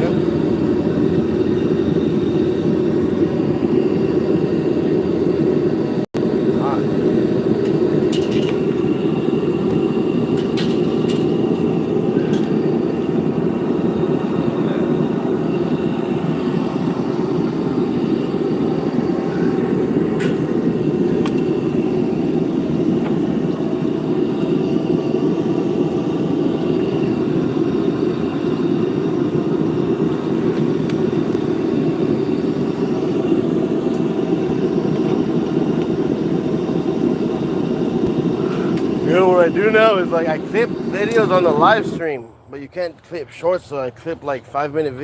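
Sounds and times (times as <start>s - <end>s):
furnace burner roaring: 0.0s - 45.0s.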